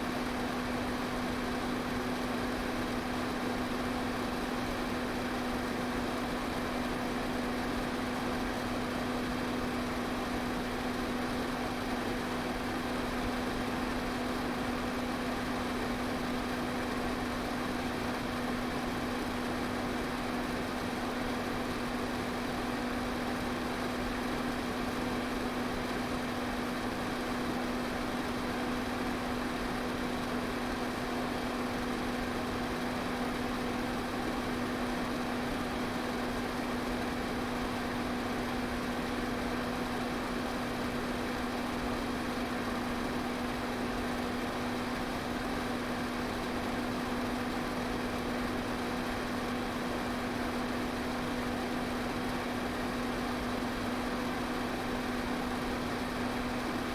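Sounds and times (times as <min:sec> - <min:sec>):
electric fan running: 0:00.0 - 0:56.9.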